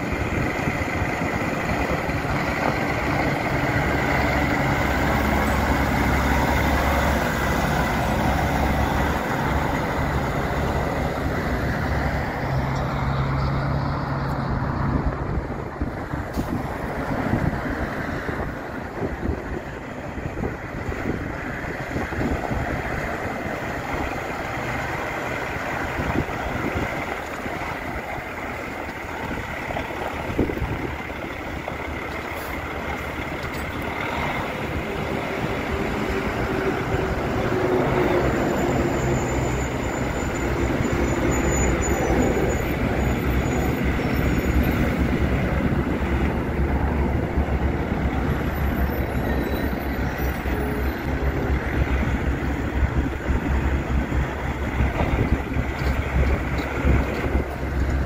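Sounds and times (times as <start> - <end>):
truck diesel engine passing: 0.0 - 58.0.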